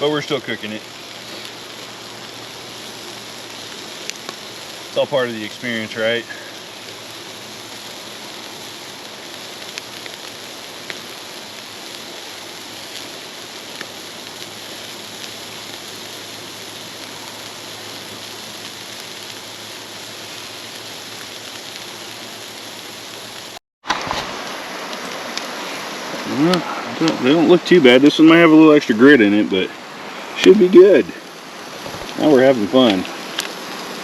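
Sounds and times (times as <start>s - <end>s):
burgers sizzling on a grill: 0.0s - 23.6s, 24.3s - 34.0s
burning wood crackling: 0.0s - 34.0s.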